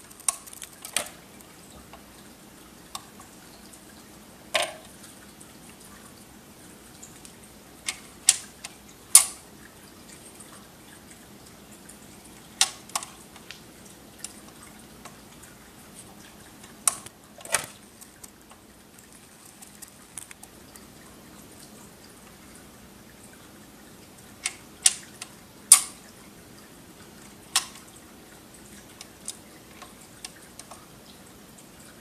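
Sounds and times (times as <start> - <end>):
low steady running noise: 0.0 - 32.0.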